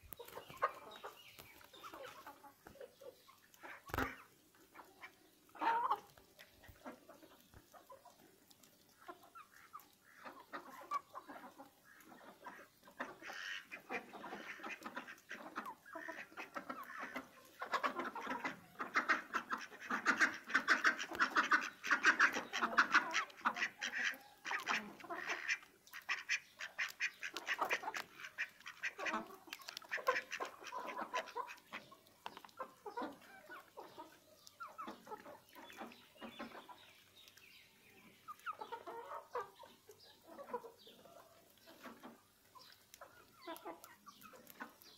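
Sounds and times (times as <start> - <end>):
chickens clucking: 0.0 - 44.9
ducks quacking: 0.0 - 44.9.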